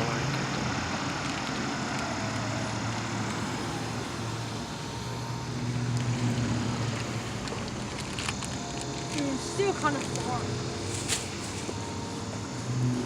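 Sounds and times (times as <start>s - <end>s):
distant train rumbling: 0.0s - 13.0s.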